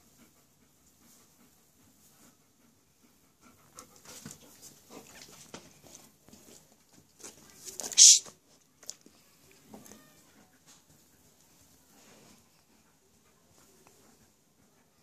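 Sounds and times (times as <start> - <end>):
dog panting softly: 0.0 - 8.7, 10.2 - 15.0.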